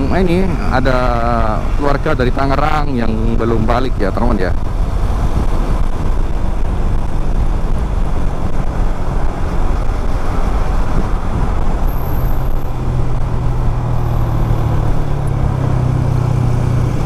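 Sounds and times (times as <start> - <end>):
motorcycle engine hum: 0.0 - 17.0
wind rumble on microphone: 0.0 - 17.0.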